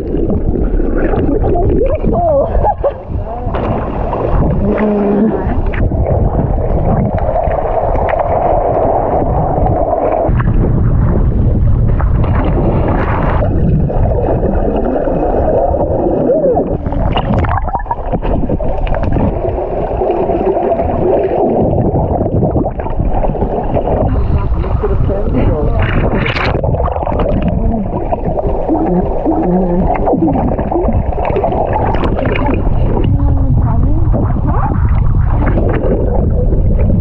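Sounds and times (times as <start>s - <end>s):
knocks and splashes: 0.0s - 15.7s, 16.7s - 24.4s, 25.1s - 33.3s
muffled water sloshing and bubbling: 0.0s - 37.0s.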